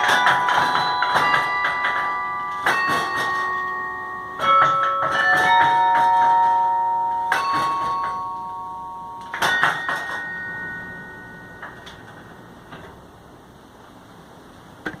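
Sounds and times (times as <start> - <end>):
carillon bells ringing: 0.0 - 12.7.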